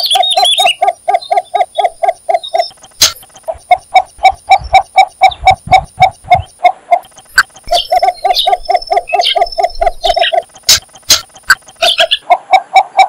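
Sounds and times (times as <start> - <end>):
bird clucking calls: 0.0 - 13.0.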